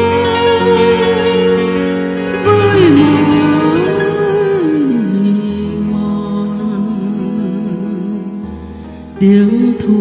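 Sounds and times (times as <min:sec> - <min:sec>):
electronic organ chords: 0:00.0 - 0:09.8.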